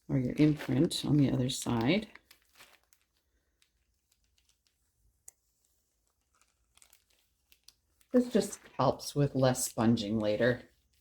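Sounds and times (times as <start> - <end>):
plastic sheeting crinkling on clay: 0.0 - 11.0.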